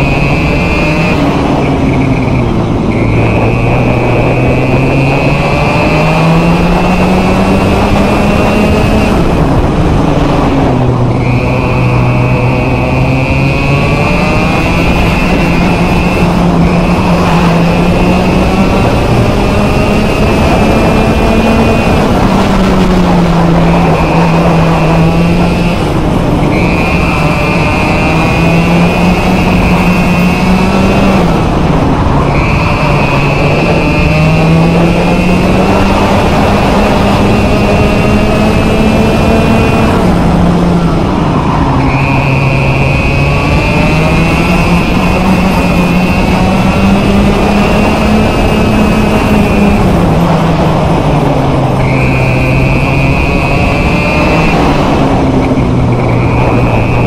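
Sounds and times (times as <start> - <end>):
two-stroke kart engine: 0.0 - 57.0.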